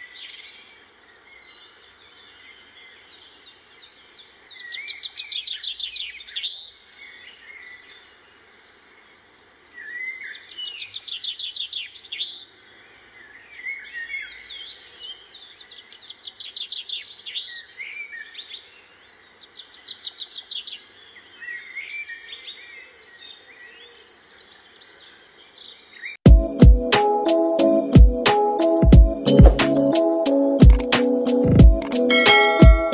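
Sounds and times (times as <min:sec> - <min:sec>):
birds singing and calling: 0:00.0 - 0:26.8.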